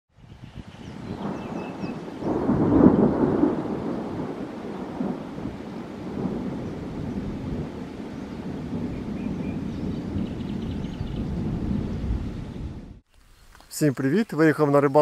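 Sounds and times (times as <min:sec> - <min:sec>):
rain falling: 0:00.6 - 0:15.0
thunder rumbling: 0:00.7 - 0:13.0.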